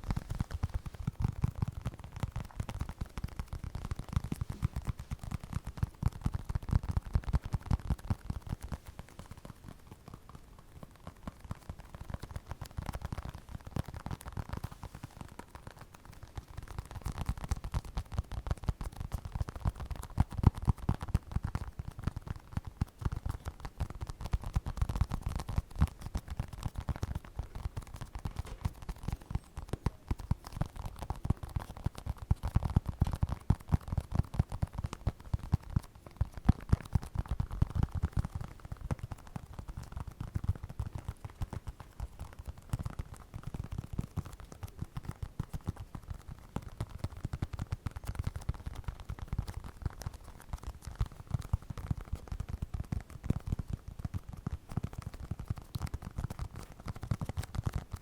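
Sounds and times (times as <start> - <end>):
rapid soft tapping and clicking: 0.0 - 58.0.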